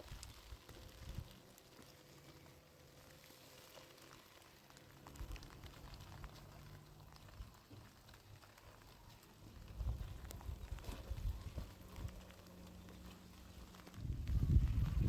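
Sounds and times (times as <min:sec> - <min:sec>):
small ticks: 0:00.0 - 0:15.0.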